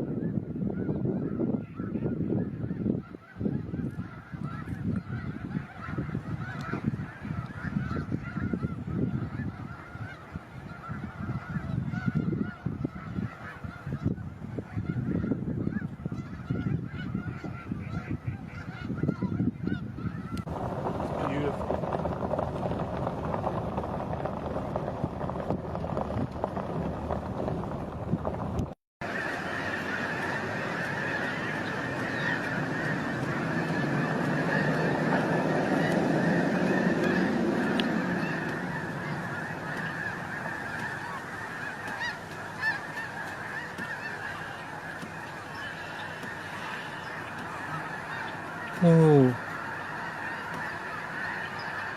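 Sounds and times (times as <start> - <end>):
geese honking: 0.0 - 28.1, 29.0 - 51.9.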